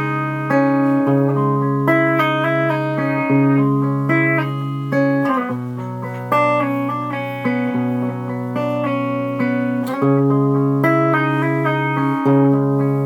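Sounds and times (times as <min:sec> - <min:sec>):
clean electric guitar melody: 0:00.0 - 0:13.0.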